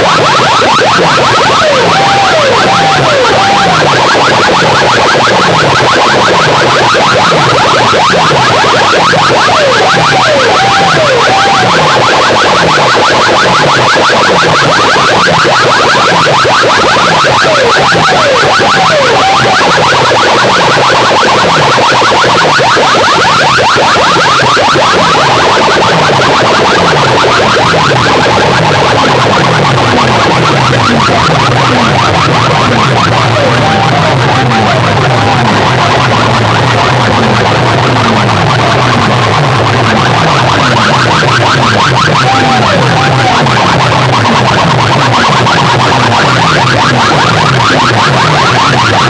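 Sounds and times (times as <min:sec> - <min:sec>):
distorted electronic music: 0:00.0 - 0:49.0
siren-like glide: 0:00.0 - 0:49.0.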